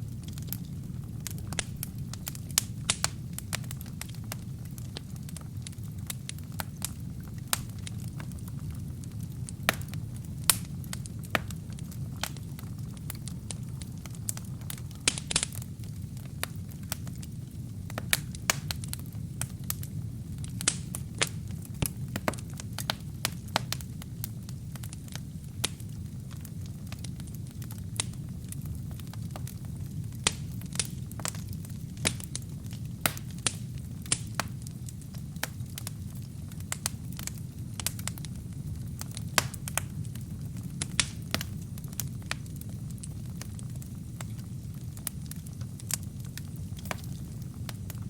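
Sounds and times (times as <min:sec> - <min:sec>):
low rumble of flames: 0:00.0 - 0:48.0
wood fire crackling and popping: 0:00.0 - 0:48.0.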